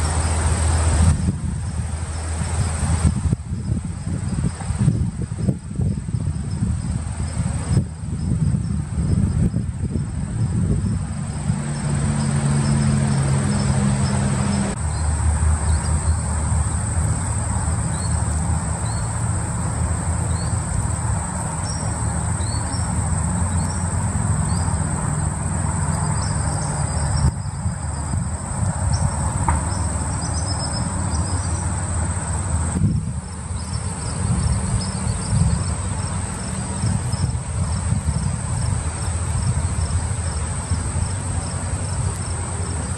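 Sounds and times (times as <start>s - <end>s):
insect chorus drone: 0.0s - 42.9s.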